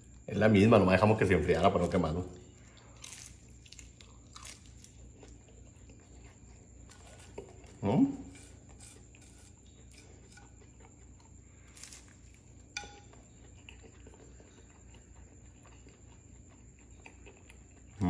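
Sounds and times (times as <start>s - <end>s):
low room hum: 0.0s - 18.0s
faint biting and chewing: 1.8s - 18.0s.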